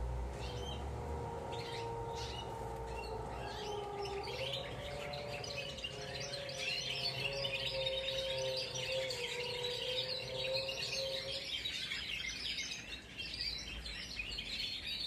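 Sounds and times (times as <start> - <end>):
canaries chirping and twittering: 0.0 - 15.0.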